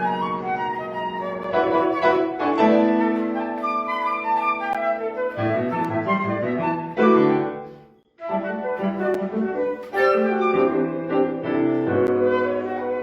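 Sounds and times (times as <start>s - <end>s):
flute: 0.0s - 13.0s
piano: 0.0s - 13.0s.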